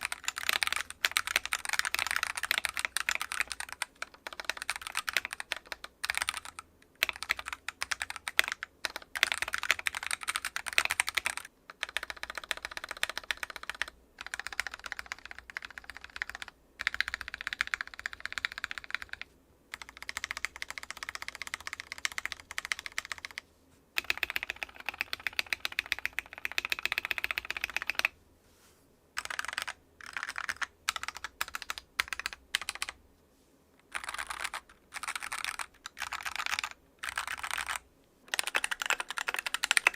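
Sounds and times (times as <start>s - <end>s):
mechanical keyboard typing: 0.0s - 23.4s, 24.0s - 28.1s, 29.2s - 33.0s, 33.8s - 39.9s.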